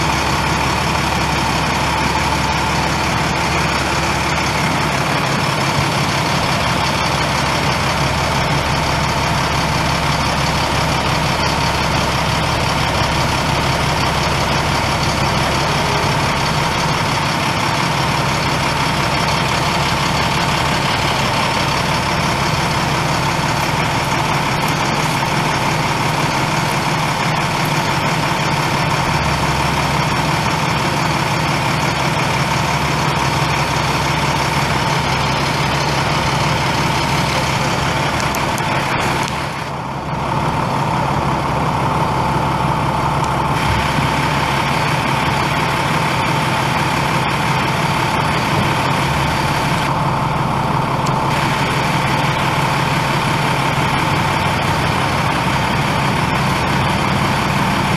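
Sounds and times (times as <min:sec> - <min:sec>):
diesel truck engine idling: 0:00.0 - 0:57.9
steady whine: 0:00.0 - 0:57.9.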